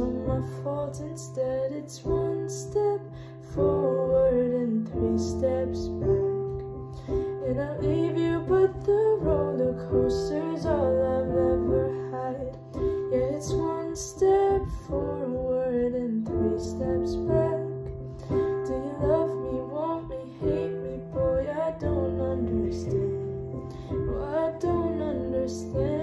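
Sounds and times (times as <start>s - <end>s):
piano accompaniment: 0.0s - 26.0s
woman singing a slow ballad: 0.0s - 26.0s.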